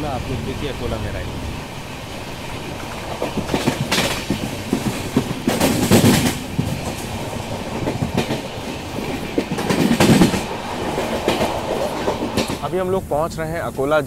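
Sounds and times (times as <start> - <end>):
train running noise: 0.0 - 14.0
wheels clicking over rail joints: 0.0 - 14.0.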